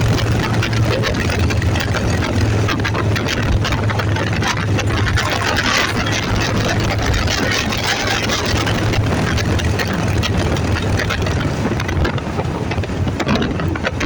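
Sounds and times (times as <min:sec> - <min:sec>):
vehicle engine drone: 0:00.0 - 0:14.0
wind and road noise: 0:00.0 - 0:14.0.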